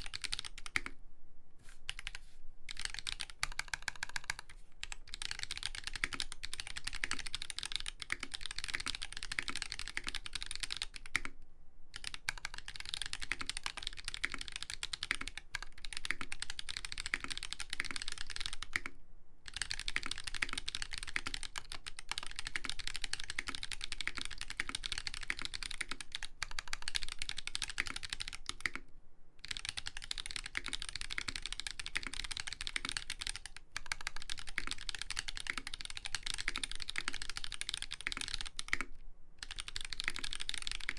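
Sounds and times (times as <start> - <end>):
fast typing on mechanical keyboard: 0.0 - 1.0, 1.9 - 28.8, 29.4 - 40.9.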